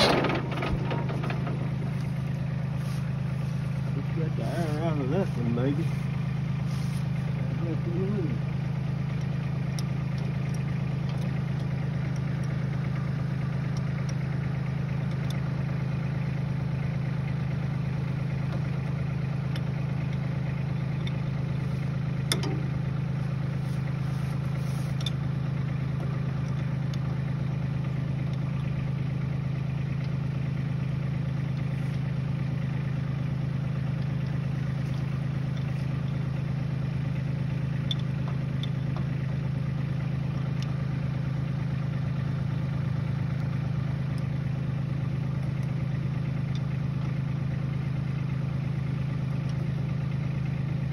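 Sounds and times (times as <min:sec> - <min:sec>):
tractor engine idling: 0:00.0 - 0:50.9.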